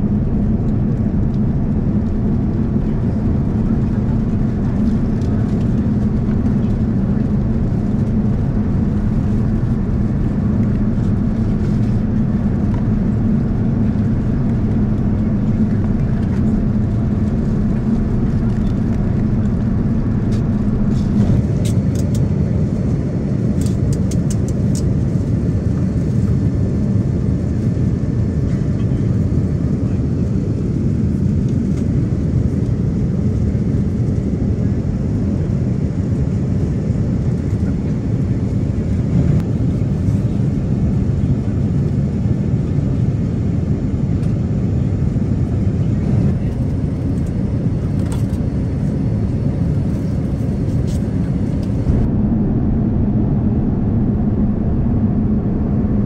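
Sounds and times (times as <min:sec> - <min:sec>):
low hum: 0:00.0 - 0:42.0, 0:44.2 - 0:56.0
airliner cabin engine and airflow noise: 0:00.0 - 0:56.0.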